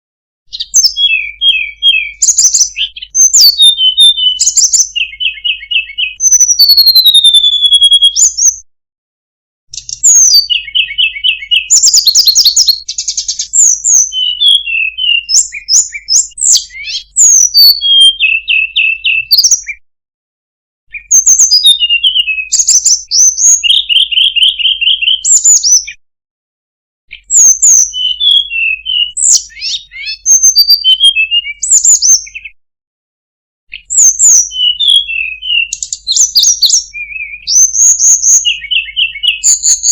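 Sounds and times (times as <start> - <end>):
bird singing chirps and trills: 0.5 - 8.6, 9.7 - 19.8, 20.9 - 26.0, 27.1 - 32.6, 33.7 - 39.9.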